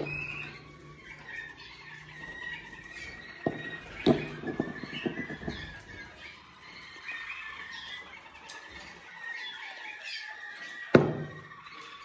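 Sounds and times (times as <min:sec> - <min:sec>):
canaries chirping and singing: 0:00.0 - 0:12.0.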